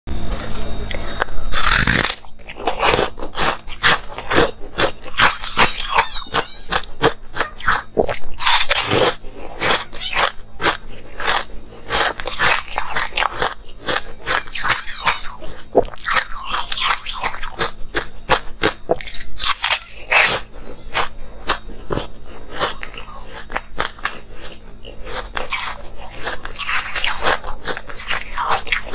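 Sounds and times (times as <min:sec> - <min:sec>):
chewing crunchy ice: 0:00.3 - 0:28.9.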